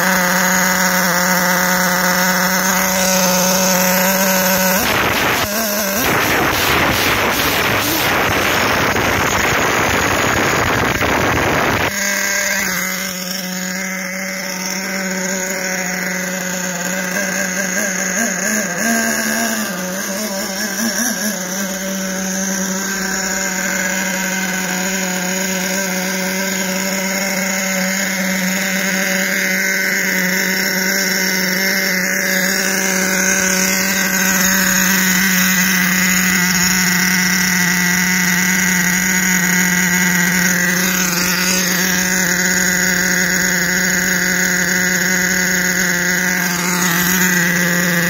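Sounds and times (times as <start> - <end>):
small engine revving and idling: 0.0 - 48.0.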